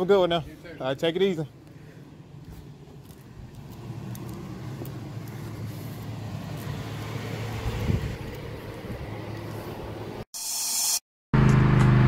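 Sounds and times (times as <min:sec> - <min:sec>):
engine humming: 0:00.0 - 0:10.2, 0:11.4 - 0:12.0.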